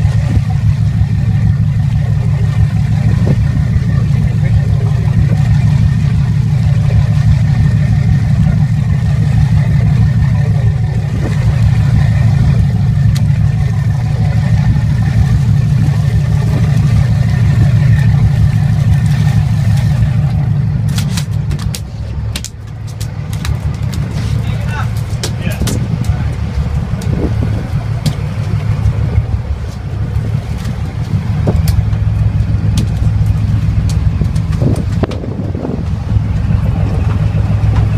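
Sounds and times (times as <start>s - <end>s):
boat engine drone: 0.0s - 37.9s
fish flopping on deck: 0.0s - 37.9s.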